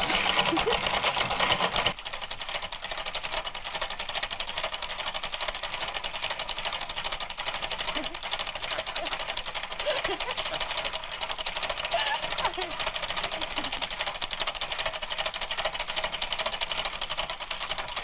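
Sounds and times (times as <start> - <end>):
film projector clattering: 0.0 - 18.0.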